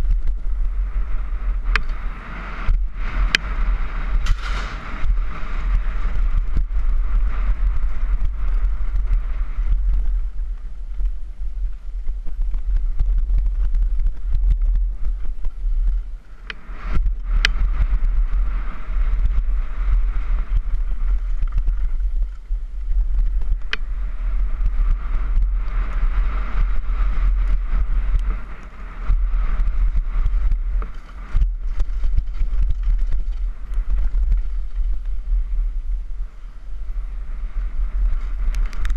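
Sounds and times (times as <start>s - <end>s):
wind buffeting microphone: 0.0s - 38.9s
bike rattling and knocking: 2.7s - 35.3s.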